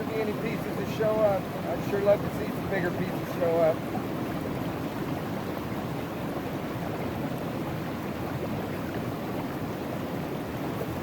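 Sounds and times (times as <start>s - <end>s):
river water rushing through sluice box: 0.0s - 11.0s.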